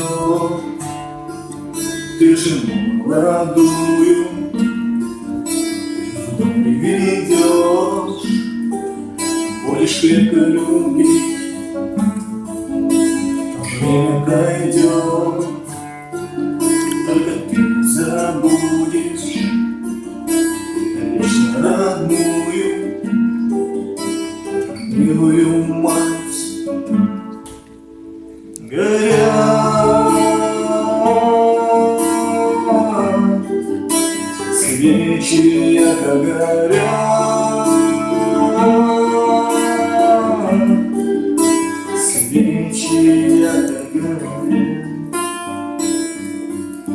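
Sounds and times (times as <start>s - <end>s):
acoustic guitar song with singing: 0.0s - 46.9s.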